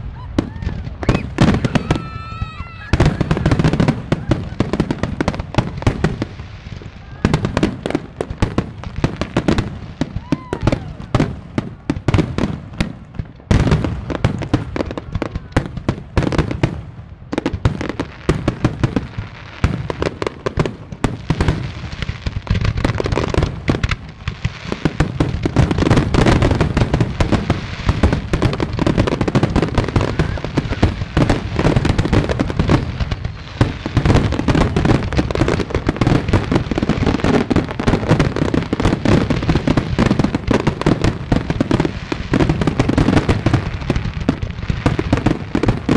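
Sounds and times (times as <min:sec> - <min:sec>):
fireworks bursting: 0:00.0 - 0:45.9
fireworks crackling: 0:00.0 - 0:45.9.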